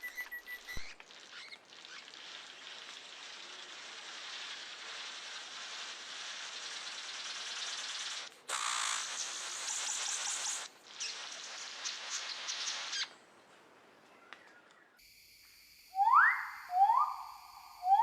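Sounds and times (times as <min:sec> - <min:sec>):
steady hiss: 0:00.8 - 0:13.1, 0:15.0 - 0:18.0.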